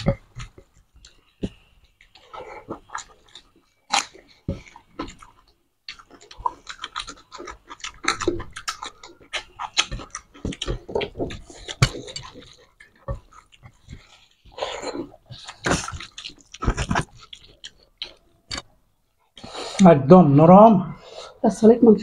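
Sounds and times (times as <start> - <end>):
chewing and lip-smacking: 0.0 - 19.6.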